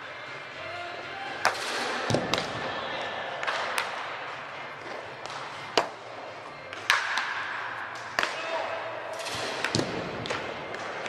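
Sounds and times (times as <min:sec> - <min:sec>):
baseball bats cracking balls: 0:01.3 - 0:11.0.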